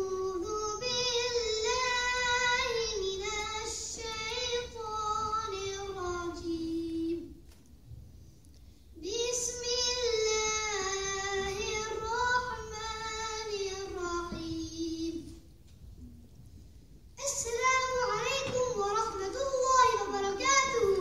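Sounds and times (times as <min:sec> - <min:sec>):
child chanting: 0:00.0 - 0:07.4, 0:09.0 - 0:15.5, 0:17.2 - 0:21.0.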